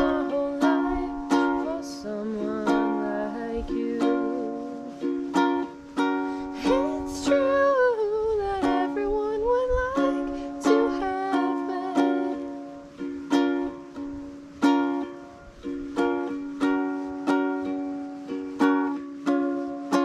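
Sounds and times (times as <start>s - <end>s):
strummed ukulele chords: 0.0s - 20.0s
wavering sung melody: 0.0s - 20.0s.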